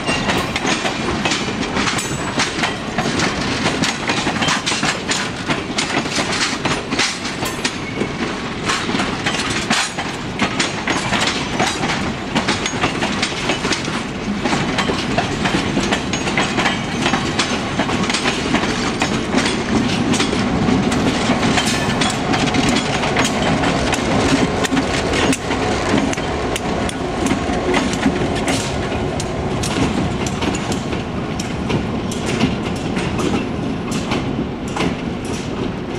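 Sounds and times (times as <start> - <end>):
train wheels clicking over rail joints: 0.0 - 35.9.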